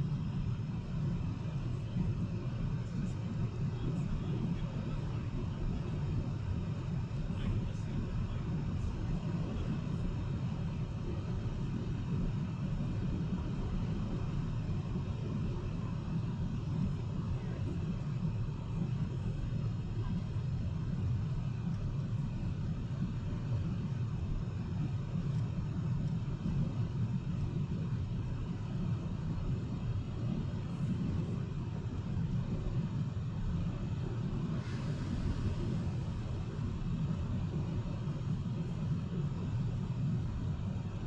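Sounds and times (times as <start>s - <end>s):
airplane cabin engine rumble: 0.0s - 41.0s.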